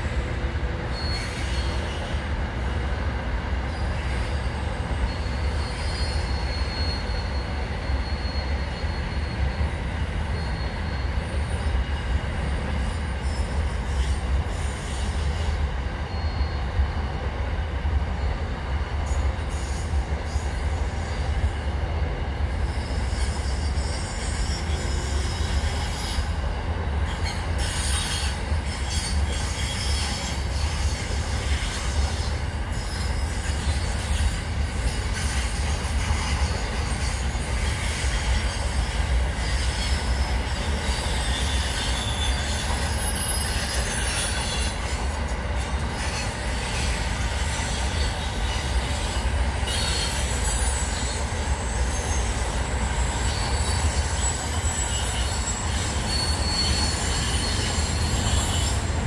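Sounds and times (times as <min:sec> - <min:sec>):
train rumbling: 0:00.0 - 0:59.0
wheels squealing on rails: 0:00.0 - 0:59.0.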